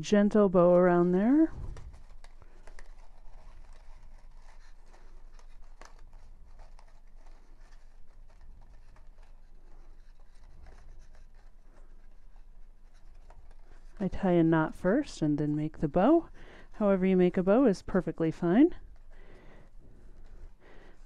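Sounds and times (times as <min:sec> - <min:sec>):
faint rustling of ribbon: 0:00.0 - 0:21.0.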